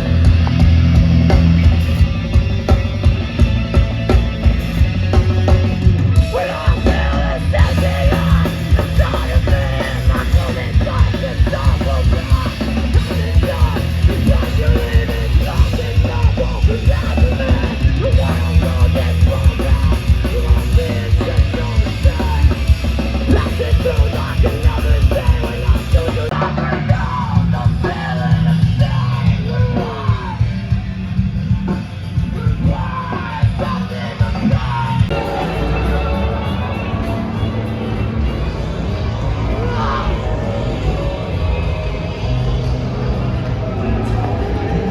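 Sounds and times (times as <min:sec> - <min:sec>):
dense drumming: 0:00.0 - 0:44.8
heavy rock band playing: 0:00.0 - 0:44.9.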